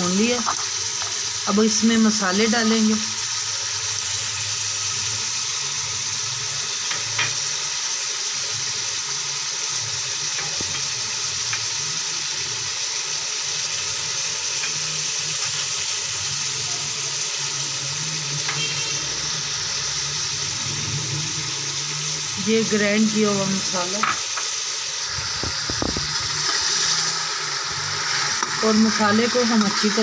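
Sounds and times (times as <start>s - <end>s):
meat sizzling in hot fat: 0.0s - 30.0s.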